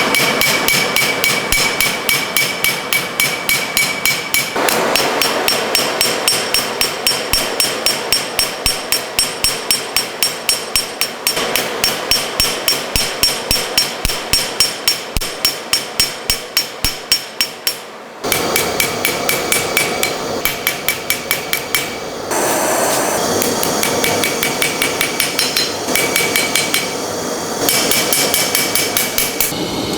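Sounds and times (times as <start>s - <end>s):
hammer blows on ringing steel: 0.0s - 29.6s.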